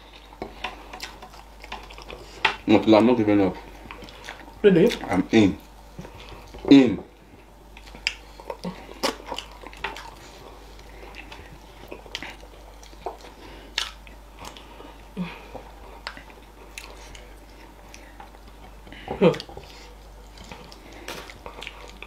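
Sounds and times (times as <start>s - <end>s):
chewing with wet smacks: 0.1s - 2.7s, 3.6s - 6.7s, 7.7s - 14.8s, 15.5s - 22.0s.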